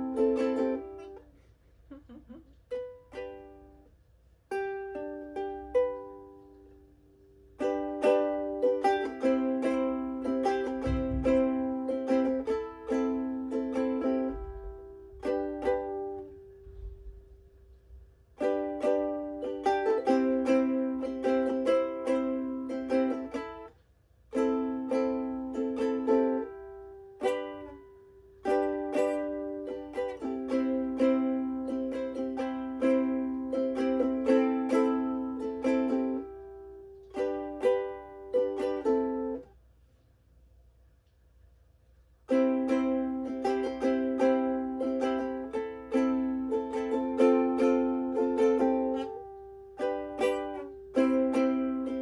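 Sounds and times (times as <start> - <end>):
ukulele strumming chords: 0.0 - 39.6, 42.2 - 52.0.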